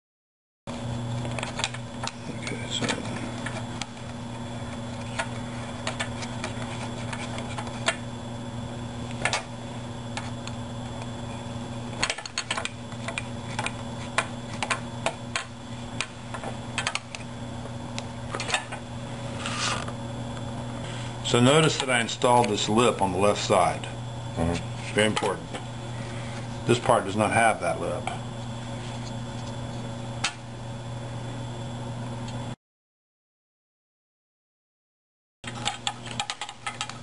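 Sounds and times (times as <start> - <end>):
steady electrical hum: 0.7 - 32.6, 35.5 - 37.0.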